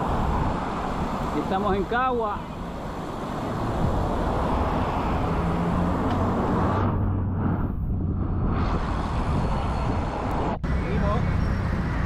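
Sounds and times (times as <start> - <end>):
bicycle road noise: 0.0 - 12.0
low hum of motor traffic: 0.0 - 12.0
wind rushing: 0.0 - 12.0.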